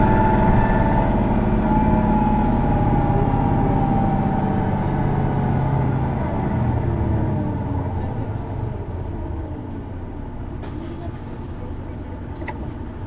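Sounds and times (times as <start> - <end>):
bus diesel engine slowing: 0.0 - 13.0.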